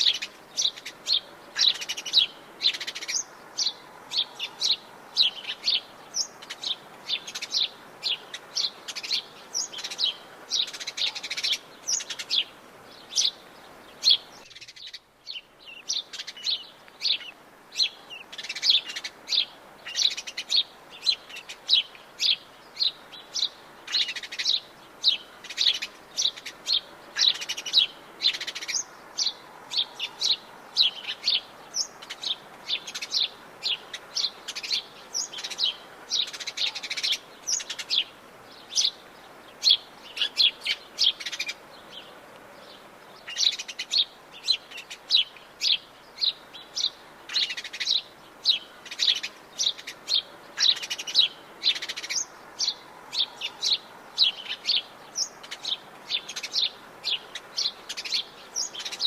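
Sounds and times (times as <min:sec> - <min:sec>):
forest birds chirping: 0:00.0 - 0:59.0.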